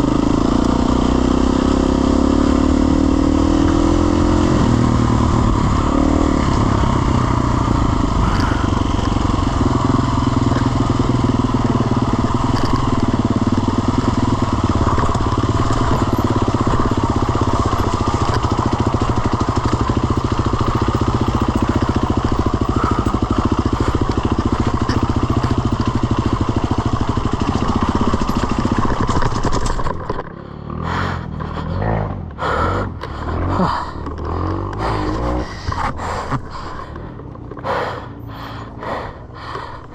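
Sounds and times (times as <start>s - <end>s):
off-road motorcycle engine: 0.0s - 39.9s.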